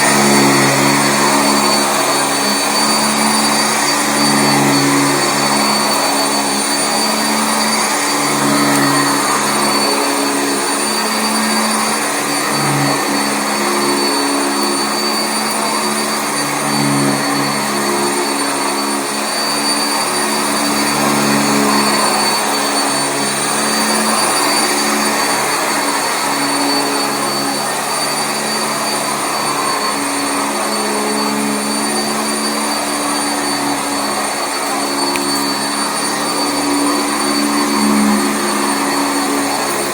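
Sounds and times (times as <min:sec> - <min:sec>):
upright vacuum cleaner on carpet: 0:00.0 - 0:39.9.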